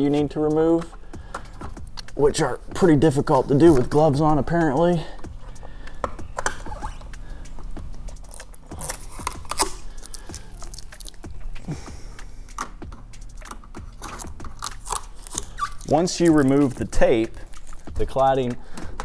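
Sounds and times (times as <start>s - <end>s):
gloved hands peeling tape: 0.9s - 2.4s, 3.0s - 19.0s.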